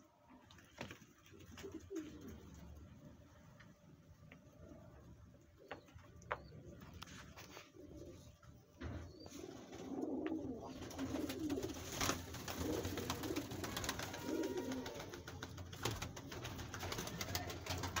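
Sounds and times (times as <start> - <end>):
pigeons cooing: 1.3 - 3.3, 4.4 - 18.0.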